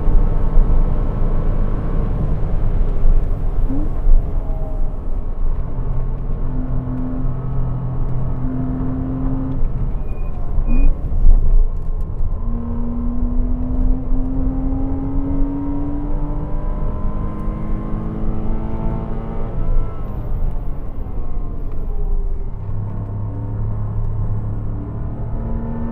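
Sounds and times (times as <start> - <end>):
car engine under load: 0.0 - 25.9
road and wind rumble: 0.0 - 25.9.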